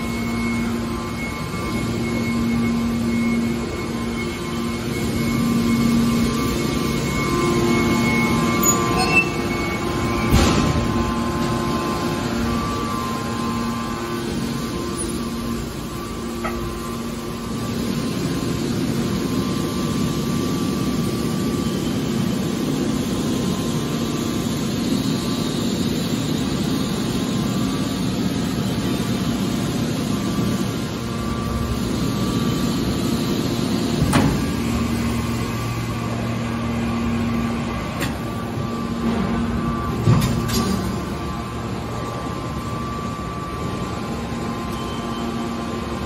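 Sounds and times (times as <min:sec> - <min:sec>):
hydraulic power unit humming: 0:00.0 - 0:46.0.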